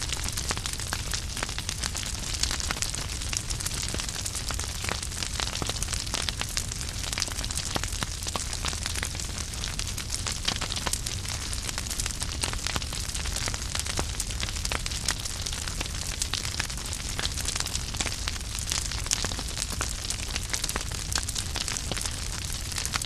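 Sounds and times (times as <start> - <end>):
logs crackling and popping: 0.0 - 23.0.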